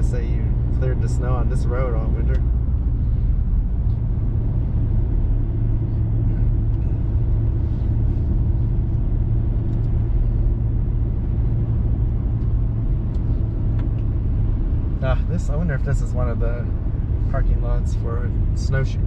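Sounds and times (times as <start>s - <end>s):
constant low hum: 0.0s - 19.0s
pickup truck engine and road rumble: 0.0s - 19.0s.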